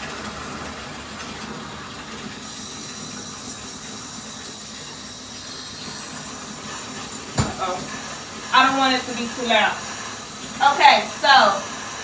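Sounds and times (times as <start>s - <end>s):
water running into bathtub: 0.0s - 12.0s.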